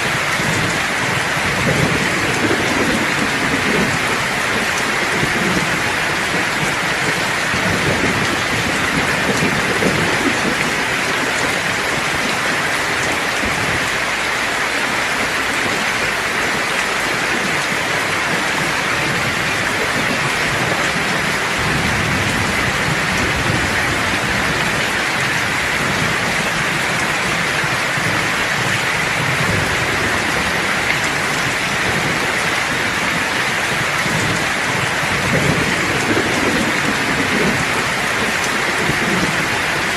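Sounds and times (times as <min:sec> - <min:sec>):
low thunder rumbles: 0:00.0 - 0:39.9
steady rain: 0:00.0 - 0:39.9.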